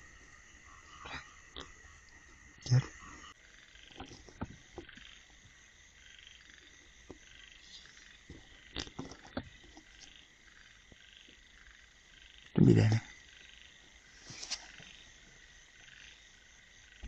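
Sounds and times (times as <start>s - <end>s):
frogs and insects calling: 0.0s - 17.0s.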